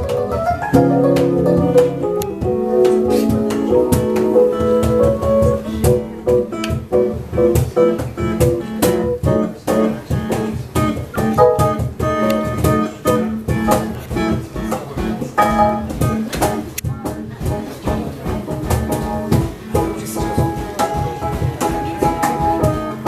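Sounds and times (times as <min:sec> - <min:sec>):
plucked guitar notes: 0:00.0 - 0:23.0.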